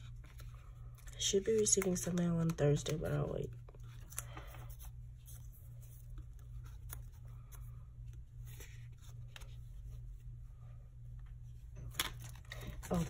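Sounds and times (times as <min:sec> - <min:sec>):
paper rustling: 0:00.0 - 0:10.1, 0:11.8 - 0:13.0
steady low hum: 0:00.0 - 0:13.0.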